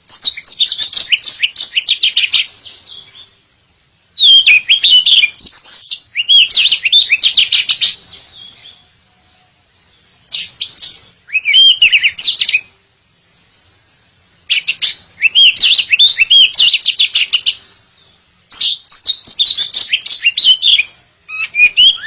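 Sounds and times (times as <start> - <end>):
bird whistling song: 0.0 - 3.4, 4.0 - 22.0.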